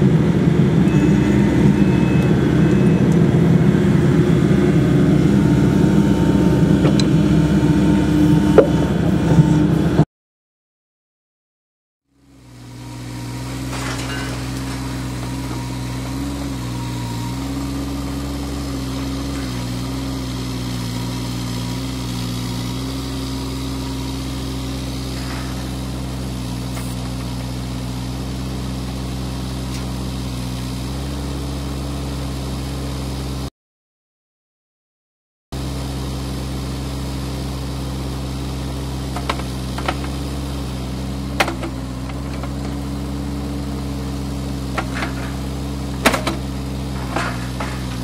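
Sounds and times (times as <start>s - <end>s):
heavy machine engine running: 0.0s - 10.0s, 12.1s - 33.5s, 35.6s - 48.0s.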